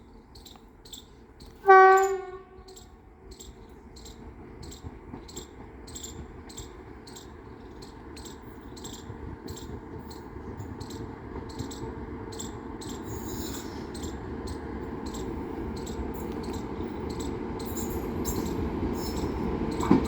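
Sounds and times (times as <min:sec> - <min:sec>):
insects chirping: 0:00.2 - 0:20.0.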